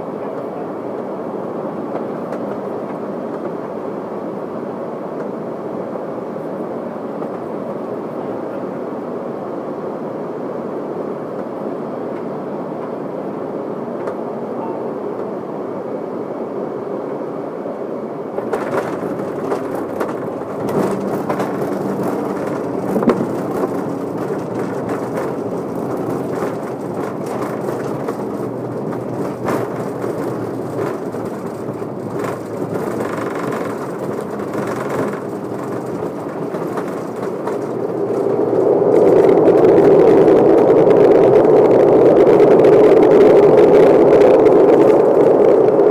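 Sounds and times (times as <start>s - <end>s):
airliner engines and wheels rumble: 0.0s - 45.9s.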